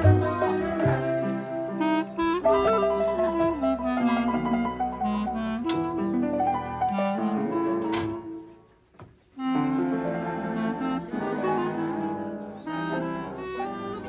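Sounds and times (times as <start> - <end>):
instrumental music: 0.0 - 14.0.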